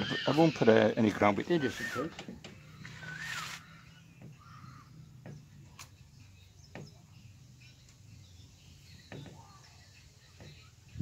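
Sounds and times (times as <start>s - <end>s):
bird chirps: 1.7s - 10.7s.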